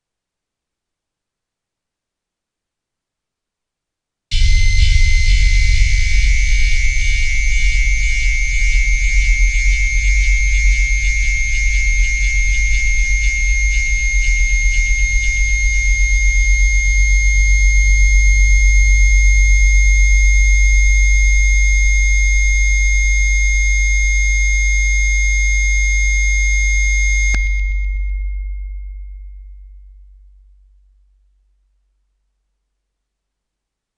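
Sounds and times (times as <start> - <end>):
deep bass tone: 4.3 - 32.2.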